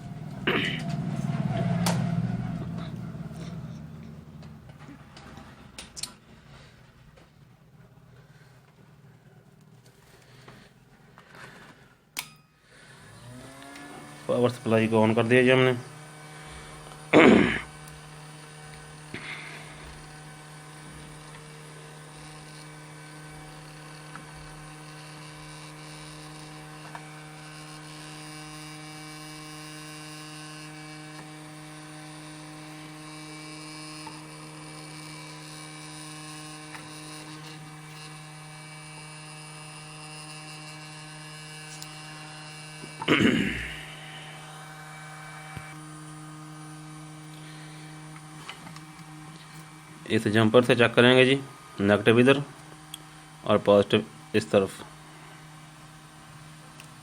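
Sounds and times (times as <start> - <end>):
power supply mains hum: 0.0 - 57.0.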